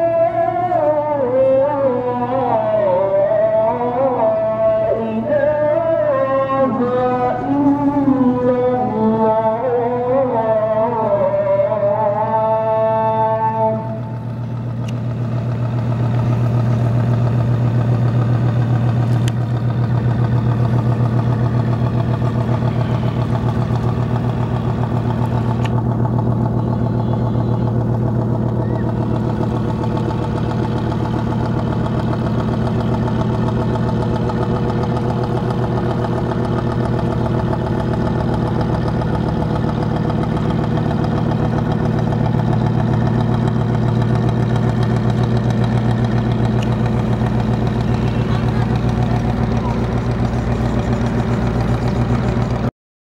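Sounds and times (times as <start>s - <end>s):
boat diesel engine pulsing hum: 0.0s - 52.7s.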